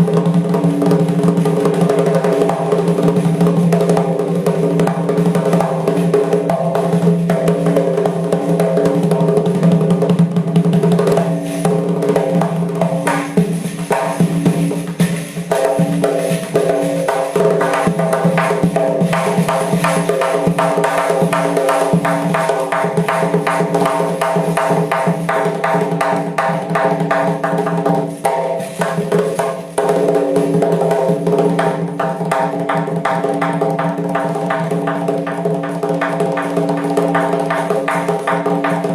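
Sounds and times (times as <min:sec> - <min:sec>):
frame drum rapid strokes: 0:00.0 - 0:38.9.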